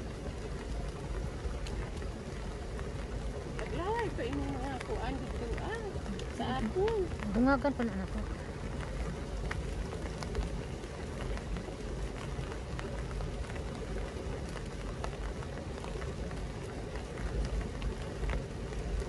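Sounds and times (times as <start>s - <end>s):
low rumble: 0.0s - 19.0s
rain on leaves: 0.0s - 19.0s.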